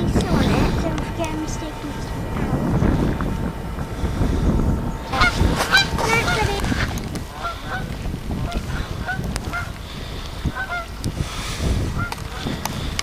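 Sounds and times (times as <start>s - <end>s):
waterfowl calling: 0.0s - 13.0s.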